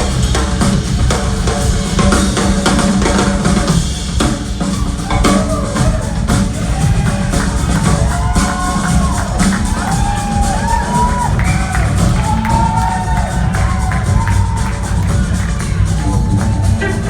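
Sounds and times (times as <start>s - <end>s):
drum kit: 0.0s - 17.0s
live rock band playing: 0.0s - 17.0s.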